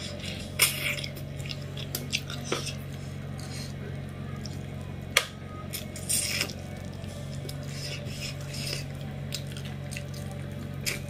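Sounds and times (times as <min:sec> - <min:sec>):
steady low hum: 0:00.0 - 0:11.0
wet chewing and smacking: 0:00.0 - 0:11.0.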